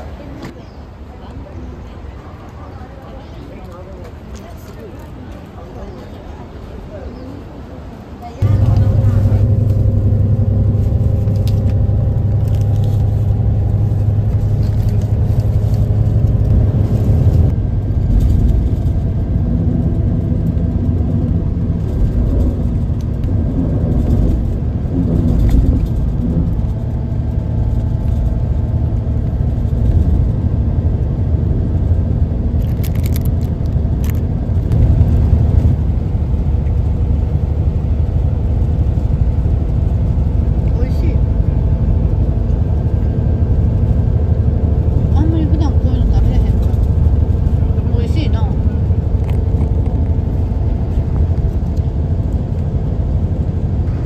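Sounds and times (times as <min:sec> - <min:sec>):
bus engine rumble: 0:00.0 - 0:54.0.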